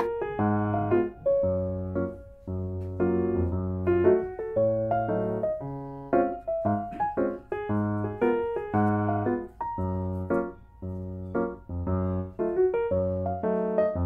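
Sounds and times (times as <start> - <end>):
piano playing chords: 0.0 - 14.0.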